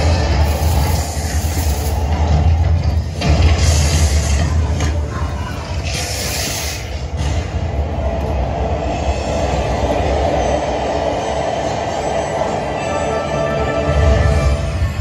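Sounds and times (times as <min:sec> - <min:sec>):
hissing rush: 0:00.0 - 0:12.8.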